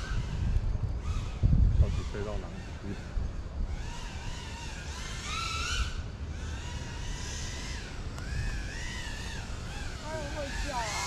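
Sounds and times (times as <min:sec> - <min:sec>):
drone motors whining: 0:00.0 - 0:11.0
wind rumble on microphone: 0:00.0 - 0:11.0.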